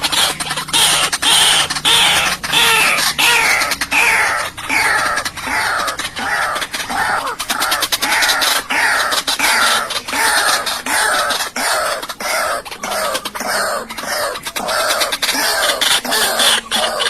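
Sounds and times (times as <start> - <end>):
waterhen harsh calls: 0.0 - 17.0.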